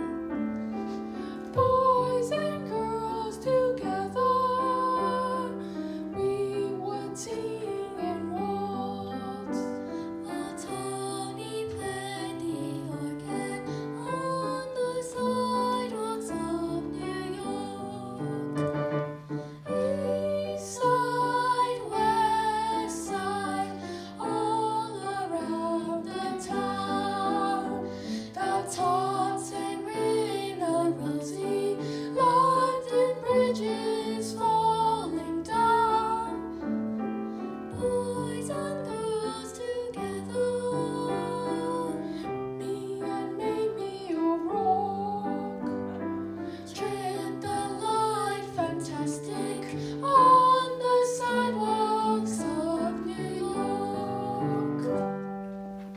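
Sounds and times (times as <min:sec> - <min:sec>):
piano accompaniment: 0:00.0 - 0:55.9
girl singing: 0:01.5 - 0:05.6, 0:06.2 - 0:18.6, 0:19.7 - 0:36.4, 0:37.8 - 0:45.6, 0:46.7 - 0:55.0.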